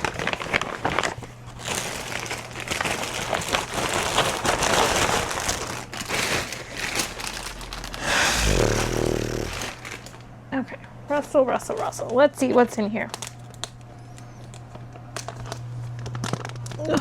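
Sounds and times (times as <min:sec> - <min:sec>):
bags rustling and crinkling: 0:00.0 - 0:10.3, 0:11.6 - 0:17.0.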